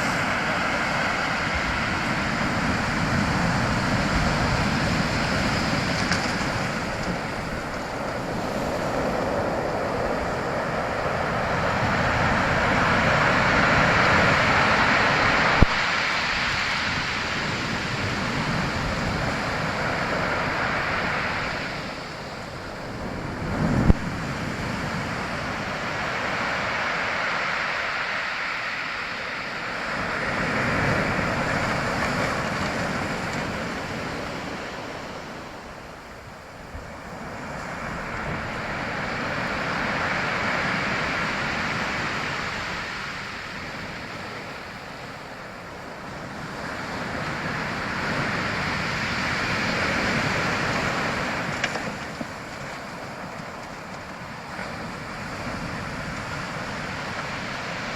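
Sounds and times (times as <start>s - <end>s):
waves washing in and receding: 0.0s - 57.9s.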